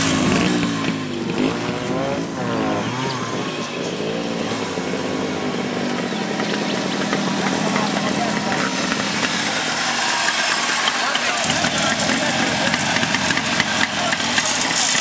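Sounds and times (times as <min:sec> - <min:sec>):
two-stroke motorcycle engines: 0:00.0 - 0:15.0.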